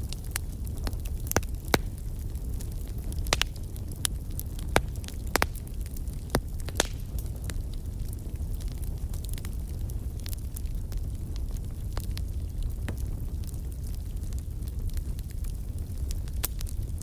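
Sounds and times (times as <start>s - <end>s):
fire pops and snaps: 0.0s - 17.0s
low rush of flames: 0.0s - 17.0s.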